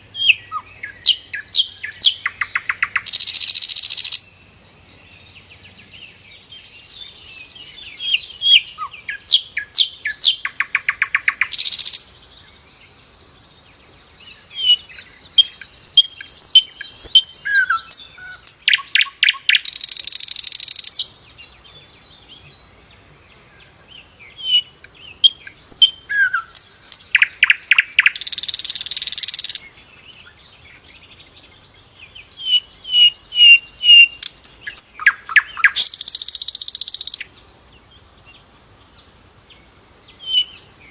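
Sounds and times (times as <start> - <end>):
flycatcher singing whistles and trills: 0.0 - 4.5, 5.2 - 13.0, 13.7 - 22.7, 24.0 - 40.9.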